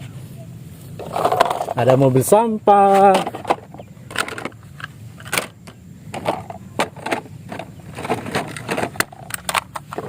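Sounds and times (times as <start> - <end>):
plastic toys clacking together: 1.0 - 1.9, 2.8 - 10.0.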